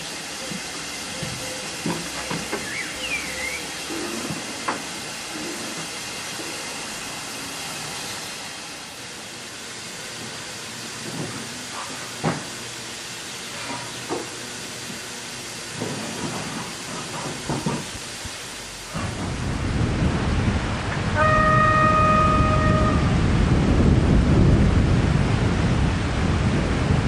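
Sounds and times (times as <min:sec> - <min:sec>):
steam hissing from locomotives: 0:00.0 - 0:27.0.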